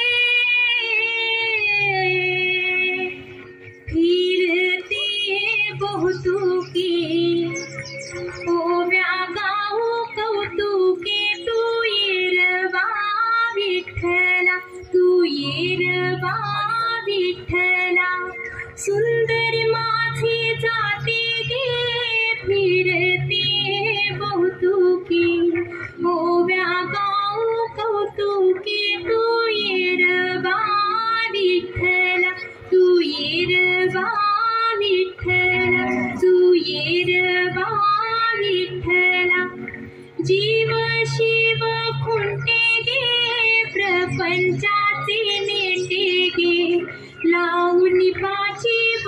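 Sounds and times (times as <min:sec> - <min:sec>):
instrumental backing with drone: 0:00.0 - 0:49.0
woman singing folk song: 0:00.0 - 0:49.0.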